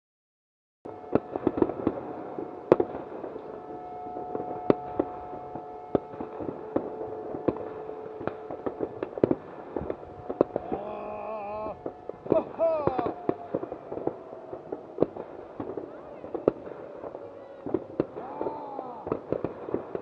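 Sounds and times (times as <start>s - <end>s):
firecrackers crackling: 0.9s - 20.0s
fireworks bangs and pops: 1.0s - 20.0s.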